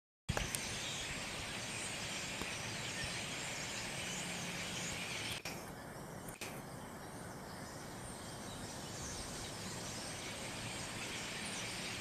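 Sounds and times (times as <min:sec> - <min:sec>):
flock of birds chattering: 0:00.3 - 0:12.0.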